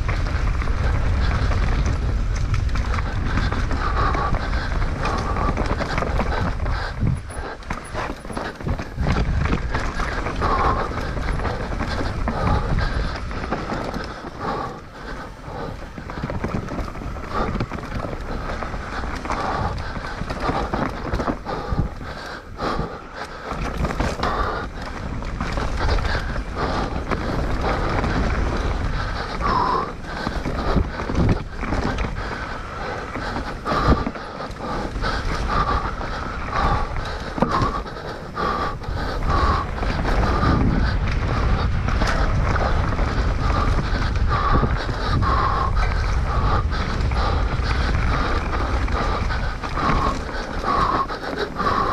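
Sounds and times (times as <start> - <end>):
bike rattling and knocking: 0.0 - 51.9
bike tyres rolling: 0.0 - 51.9
heavy breathing: 0.0 - 51.9
wind noise on microphone: 0.0 - 51.9.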